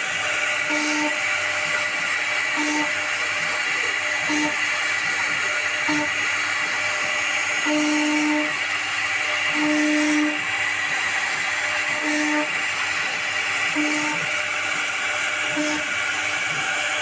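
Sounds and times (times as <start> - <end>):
cnc router whining and cutting: 0.0 - 17.0.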